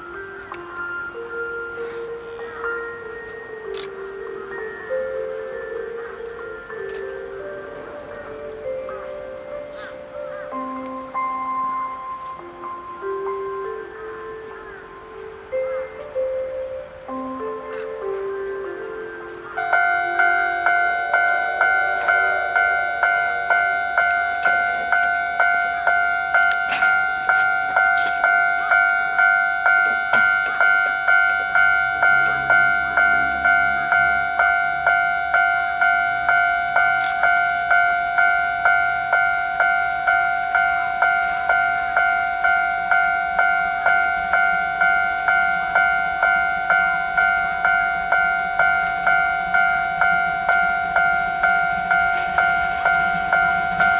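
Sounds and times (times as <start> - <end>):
level crossing bell dinging: 0.0 - 53.9.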